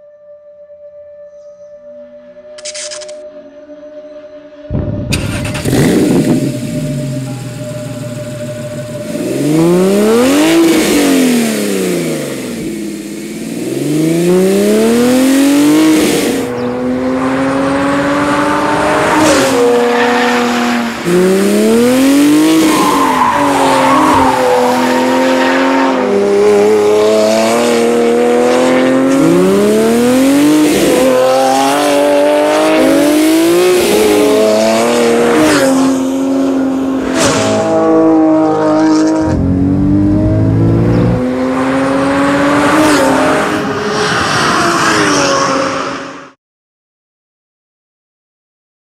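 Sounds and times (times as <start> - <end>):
car engine accelerating hard: 4.7 - 46.4.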